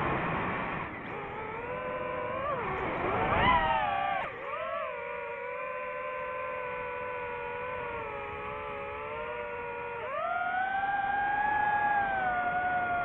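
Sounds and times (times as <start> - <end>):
drone motors whining: 0.8 - 13.0.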